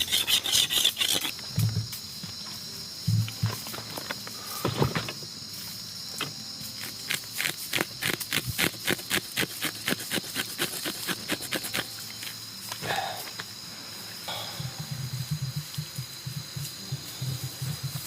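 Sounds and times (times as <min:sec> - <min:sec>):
night insects humming: 0:00.0 - 0:18.0.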